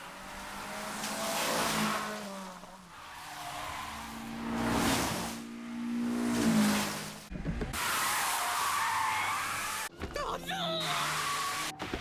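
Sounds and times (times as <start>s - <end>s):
racing car engines at high revs: 0.0s - 9.9s, 10.7s - 12.0s.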